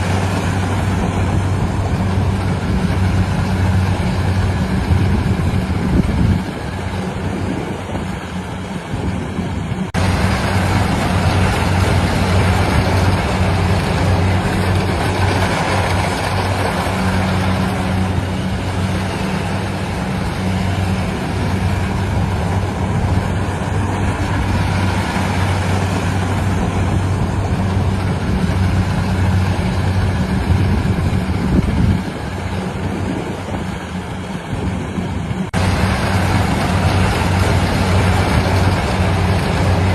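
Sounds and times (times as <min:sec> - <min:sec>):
harvester engine with mechanical clatter: 0:00.0 - 0:39.9.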